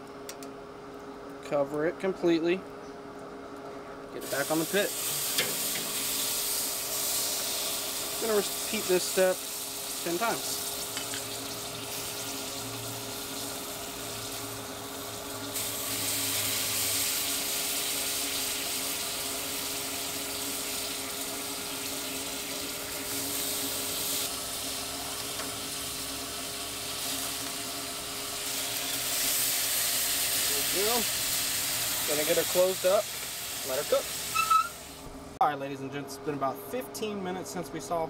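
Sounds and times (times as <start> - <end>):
chicken sizzling on a grate: 4.2 - 35.1.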